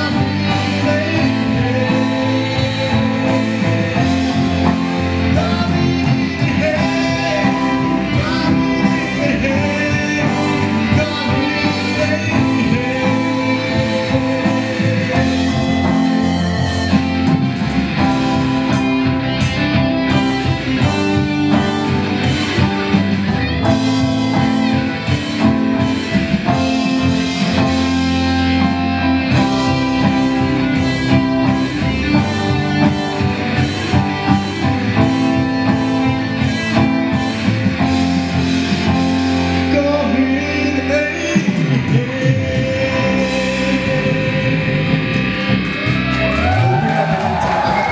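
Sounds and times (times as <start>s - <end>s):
guitar-led band music: 0.0s - 47.9s.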